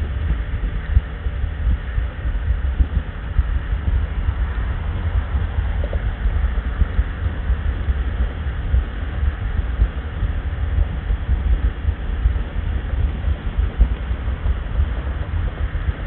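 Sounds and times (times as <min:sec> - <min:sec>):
motorcycle low rumble: 0:00.0 - 0:16.0
wind rush: 0:00.0 - 0:16.0.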